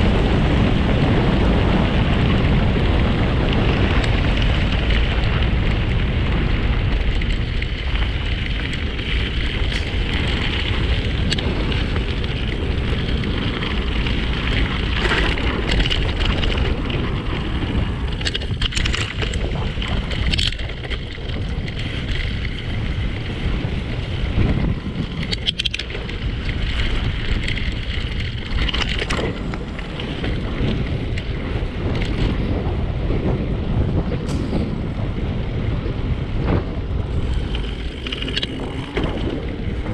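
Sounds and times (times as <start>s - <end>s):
tyres rolling over gravel: 0.0s - 39.9s
wind buffeting microphone: 0.0s - 39.9s.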